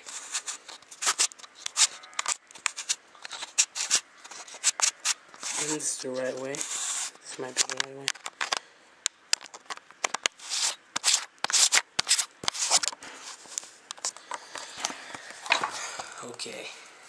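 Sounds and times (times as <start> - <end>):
lens handling clicks and scrapes: 0.0 - 16.1.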